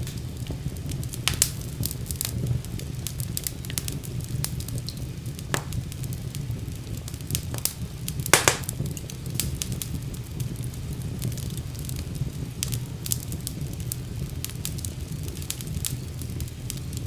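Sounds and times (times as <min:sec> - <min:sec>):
sharp crackles and pops: 0:00.0 - 0:17.0
wood fire burning: 0:00.0 - 0:17.0.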